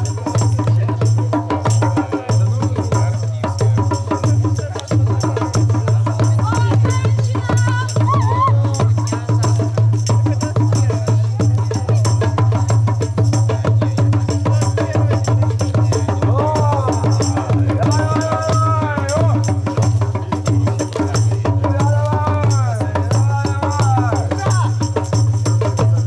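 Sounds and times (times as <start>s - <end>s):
fast folk drumming and percussion: 0.0s - 26.0s
voices calling out: 0.0s - 26.0s.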